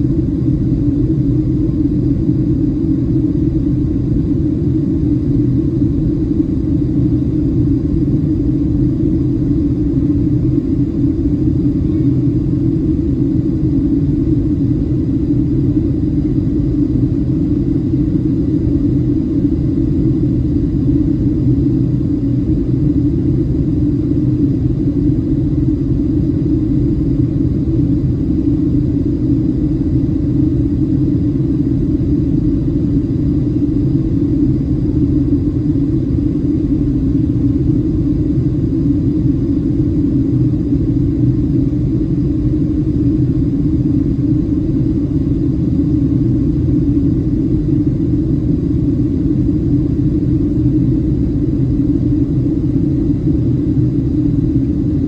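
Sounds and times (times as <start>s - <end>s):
aircraft cabin engine rumble: 0.0s - 55.0s.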